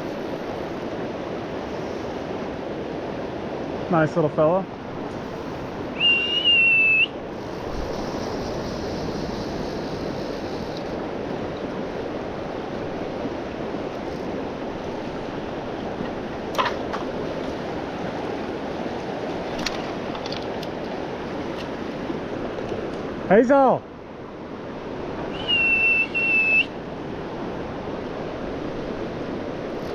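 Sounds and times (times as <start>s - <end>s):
river water rushing: 0.0s - 29.9s.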